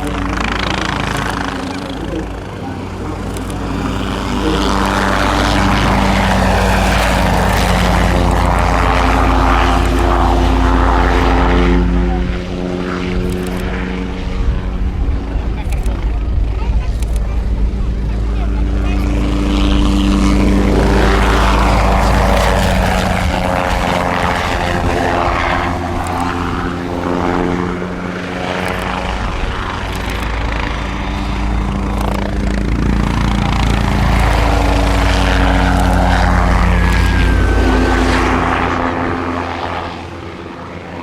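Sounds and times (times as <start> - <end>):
aircraft engine and propeller drone: 0.0 - 41.0.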